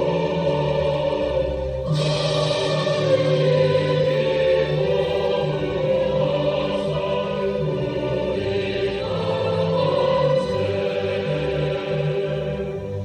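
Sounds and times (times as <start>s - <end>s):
solemn choir-like chords: 0.0s - 13.0s.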